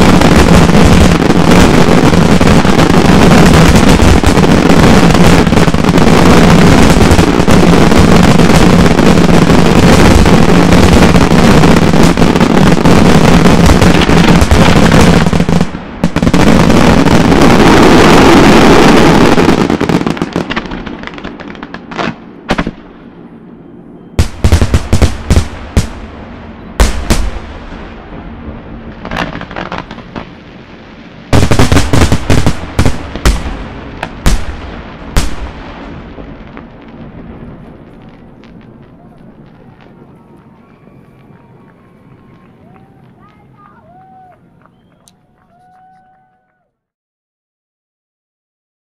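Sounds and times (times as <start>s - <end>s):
loud firework bangs: 0.0s - 46.4s
fireworks bursting and crackling: 0.0s - 46.5s.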